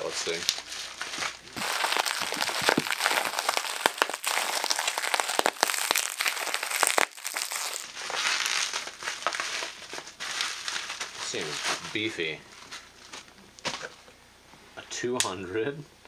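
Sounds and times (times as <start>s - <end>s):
bubble wrap crinkling and clicking: 0.0s - 13.9s.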